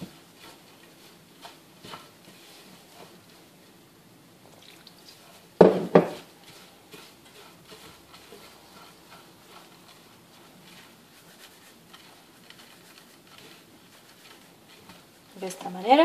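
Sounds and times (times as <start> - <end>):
soft rustle of noodles in bowl: 0.0 - 16.0.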